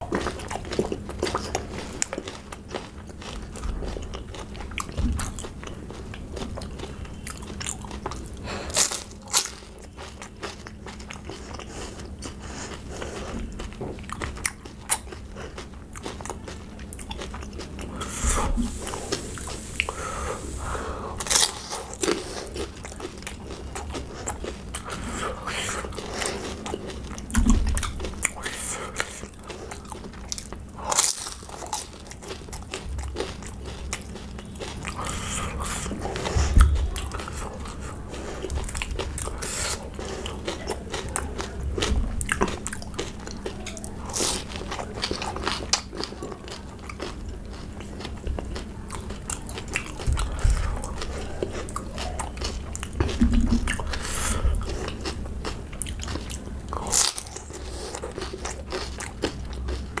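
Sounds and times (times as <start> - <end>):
crunchy biting and chewing: 0.0 - 60.0.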